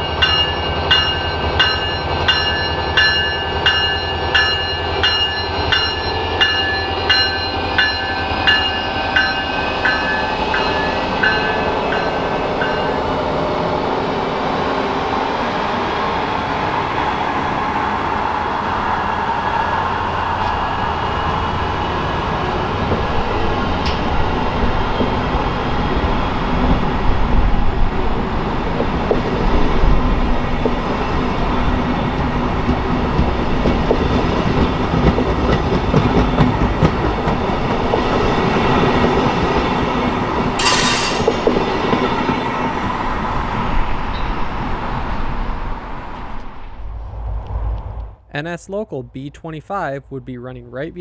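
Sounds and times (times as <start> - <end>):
train wheels rumbling on rail: 0.0 - 48.2.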